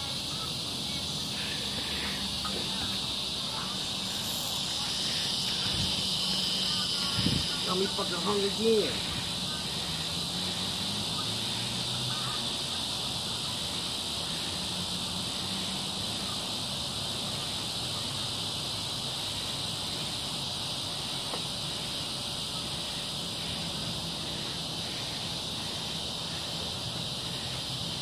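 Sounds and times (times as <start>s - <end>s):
faint regular pulsing: 0.0s - 28.0s
high-pitched insect chorus: 0.0s - 28.0s.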